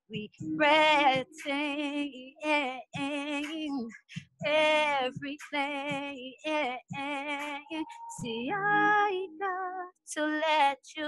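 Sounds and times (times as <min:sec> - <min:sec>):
woman singing unaccompanied: 0:00.1 - 0:11.0.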